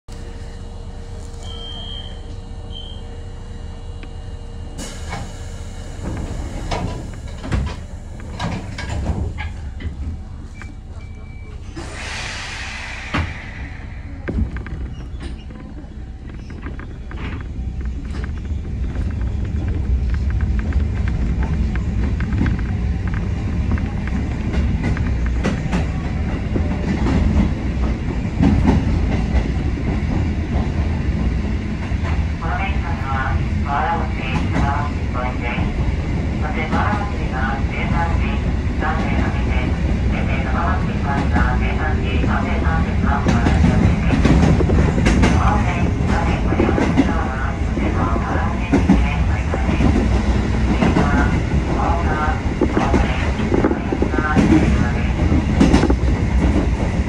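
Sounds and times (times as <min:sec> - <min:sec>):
electric train humming: 0:00.1 - 0:57.0.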